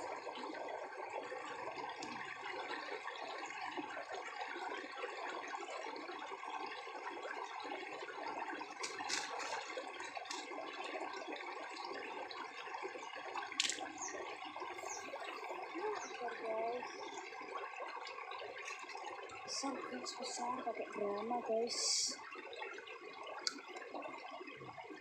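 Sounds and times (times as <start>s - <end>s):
running water: 0.0s - 25.0s.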